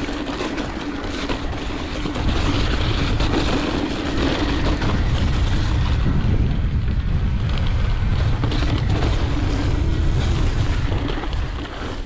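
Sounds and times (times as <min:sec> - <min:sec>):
bike rolling on rough trail: 0:00.0 - 0:12.0
wind buffeting microphone: 0:00.0 - 0:12.0.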